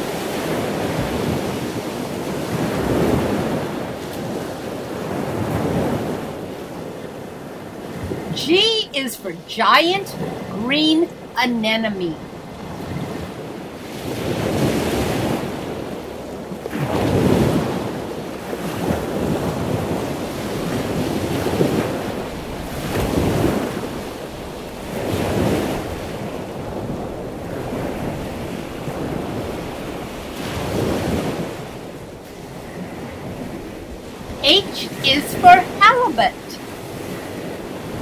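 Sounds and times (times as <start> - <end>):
ocean waves washing: 0.0 - 38.0.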